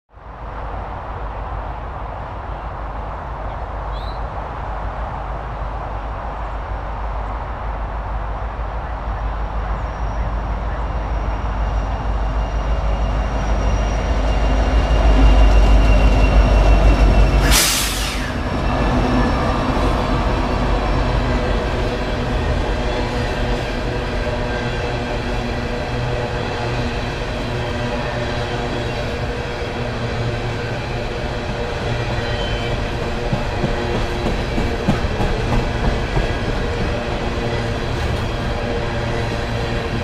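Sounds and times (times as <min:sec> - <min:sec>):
diesel locomotive engine rumble: 0:00.2 - 0:40.0.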